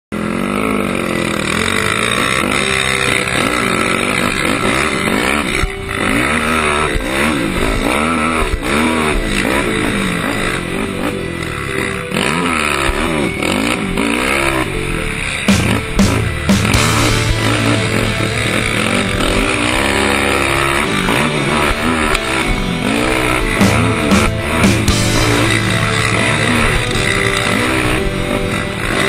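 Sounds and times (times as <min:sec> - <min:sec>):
quad engine revving: 0:00.1 - 0:29.0.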